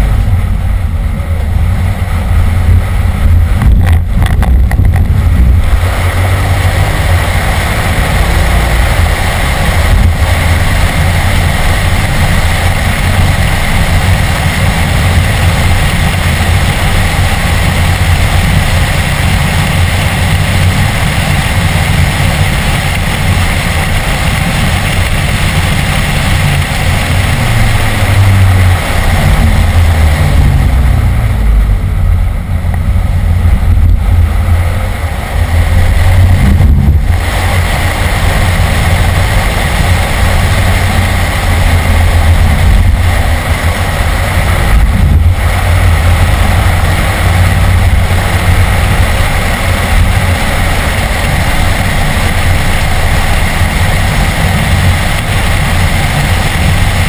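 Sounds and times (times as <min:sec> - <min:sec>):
car engine running hard: 0:00.0 - 0:57.0
road noise: 0:00.0 - 0:57.0
wind noise: 0:00.0 - 0:57.0.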